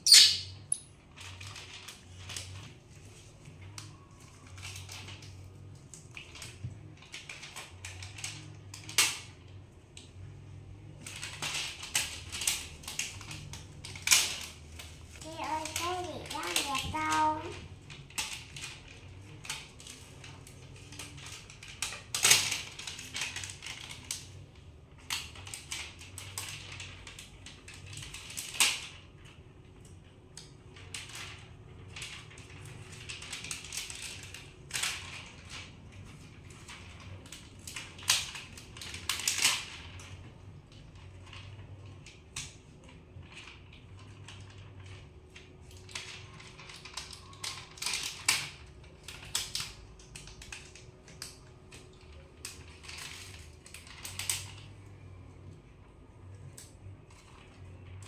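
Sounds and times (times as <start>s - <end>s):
sticker sheets crinkling and clicking: 1.0s - 58.0s.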